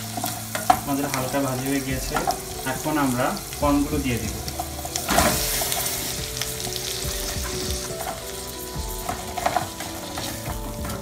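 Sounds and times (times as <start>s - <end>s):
food sizzling in a saucepan: 0.0s - 11.0s.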